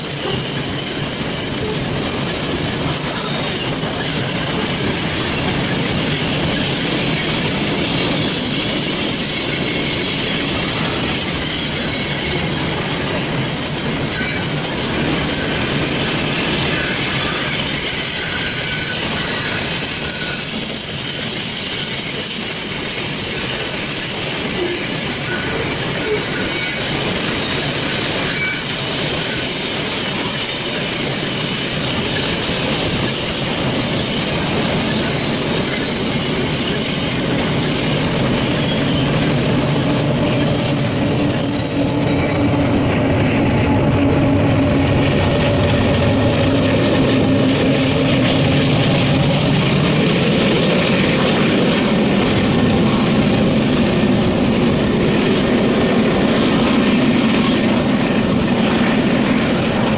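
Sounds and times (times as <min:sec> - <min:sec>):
high wheel squeal: 0:00.0 - 0:49.2
train wheels rumbling on rail: 0:00.0 - 0:59.9.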